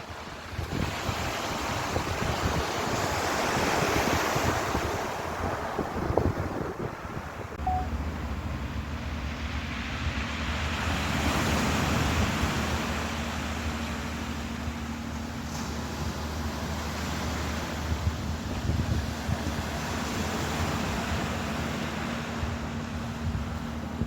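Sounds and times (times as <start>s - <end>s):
wind on microphone: 0.0s - 13.9s, 16.0s - 24.0s
low engine hum: 0.0s - 24.0s
surf washing on shore: 0.0s - 24.0s.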